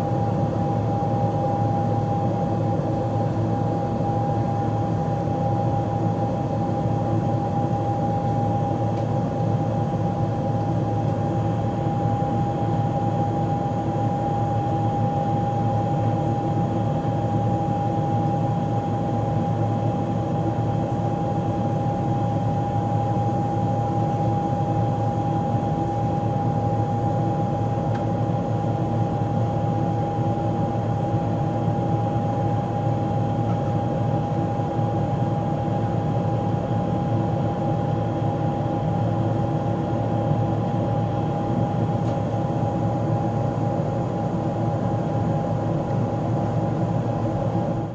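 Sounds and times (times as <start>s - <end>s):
jet engines and airflow in cabin: 0.0s - 47.9s
steady high hum: 0.0s - 47.9s.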